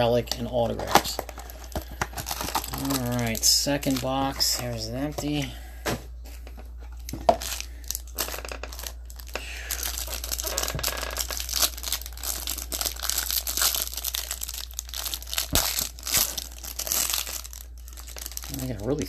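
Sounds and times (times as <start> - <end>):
plastic wrapping crinkling and tearing: 0.0 - 5.5, 6.9 - 19.0.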